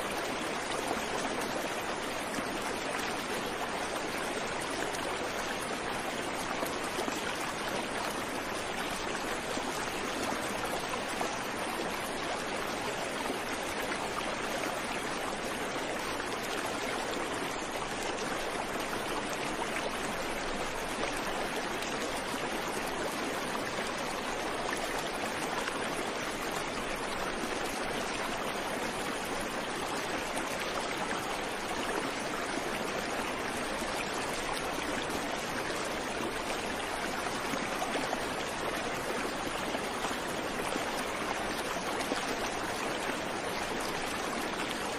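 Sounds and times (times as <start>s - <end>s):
fast-flowing river: 0.0s - 44.9s.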